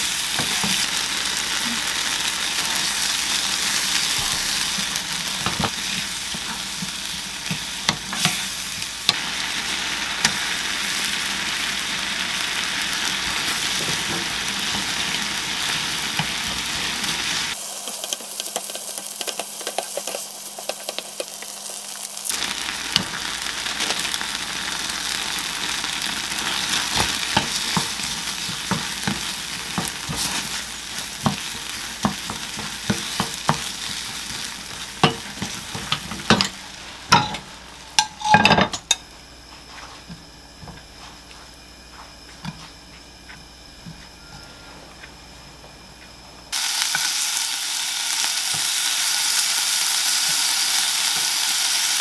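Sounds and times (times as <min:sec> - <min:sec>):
vegetables sizzling in a frying pan: 0:00.0 - 0:39.0, 0:46.5 - 0:52.0.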